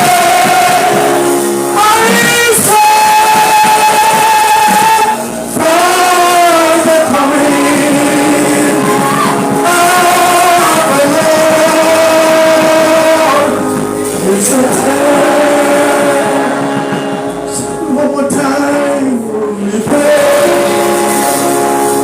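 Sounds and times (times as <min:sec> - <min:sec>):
instrumental accompaniment: 0:00.0 - 0:22.0
slow worship singing: 0:00.0 - 0:22.0.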